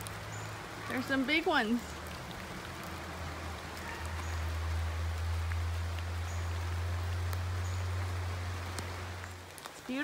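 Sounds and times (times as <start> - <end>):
rain dripping through foliage: 0.0 - 10.0.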